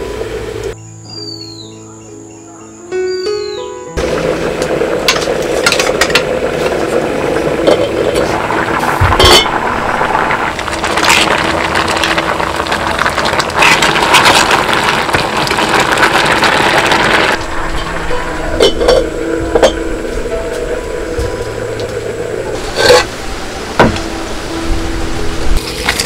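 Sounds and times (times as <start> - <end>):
fire crackling: 4.0 - 26.0.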